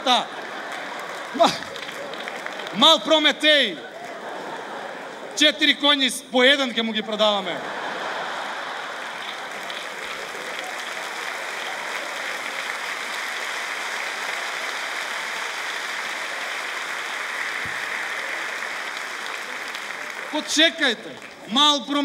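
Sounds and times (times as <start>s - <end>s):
audience applauding: 0.0s - 5.8s, 7.1s - 22.0s.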